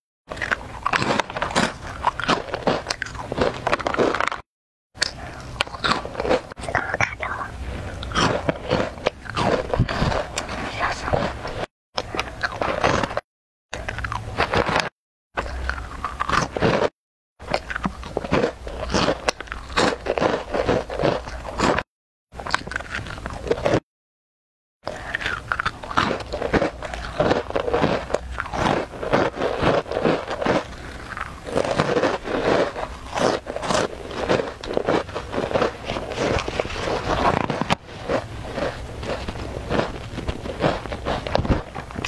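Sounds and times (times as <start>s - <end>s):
crunching crisp snacks: 0.3s - 7.1s, 7.7s - 13.2s, 13.8s - 23.8s, 24.9s - 42.0s.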